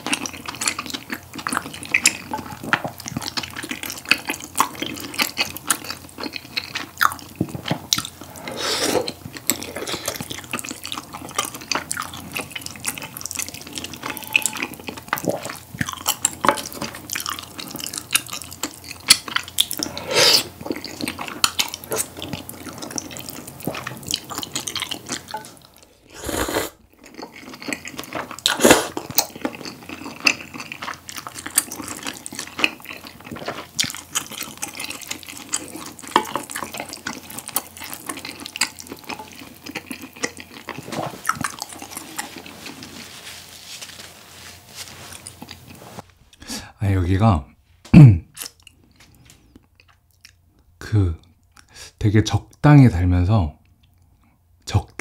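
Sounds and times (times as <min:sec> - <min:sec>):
noodles slurped and chewed: 0:00.0 - 0:46.0.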